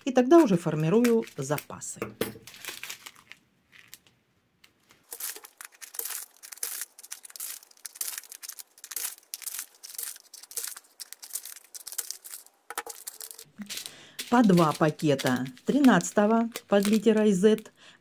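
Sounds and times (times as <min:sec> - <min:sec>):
plastic packets crinkling: 0:00.2 - 0:17.7.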